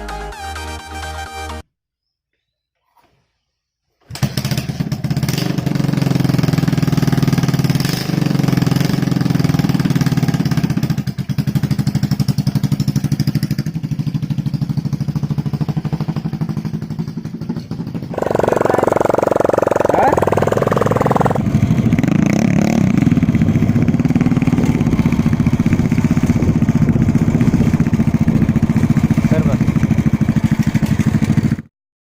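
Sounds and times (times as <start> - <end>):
motorcycle engine running: 4.0 - 31.7.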